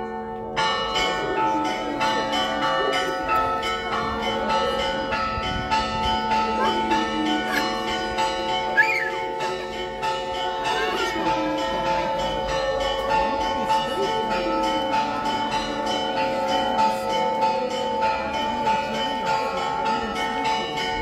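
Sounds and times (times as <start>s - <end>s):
church bells ringing: 0.0s - 21.0s
faint voices: 0.0s - 21.0s.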